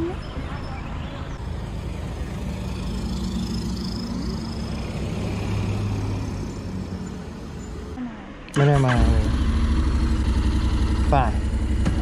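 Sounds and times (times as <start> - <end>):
street traffic passing: 0.0 - 12.0.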